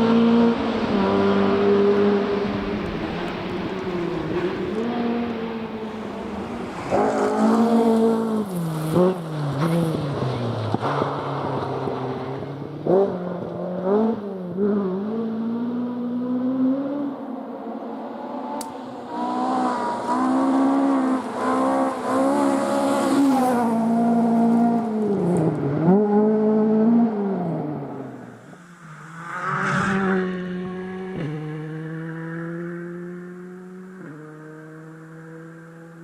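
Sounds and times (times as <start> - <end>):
rally car engine revving: 0.0 - 36.0.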